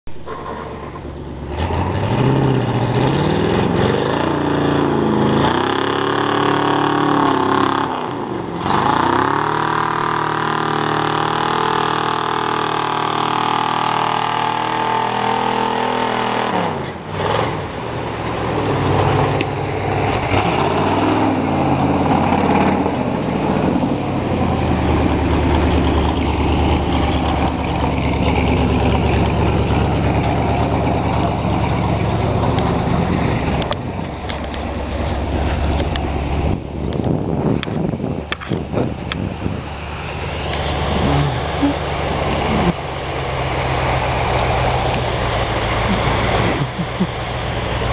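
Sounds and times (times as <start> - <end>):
truck engine revving: 0.1 - 47.9
tyres churning mud: 0.1 - 47.9.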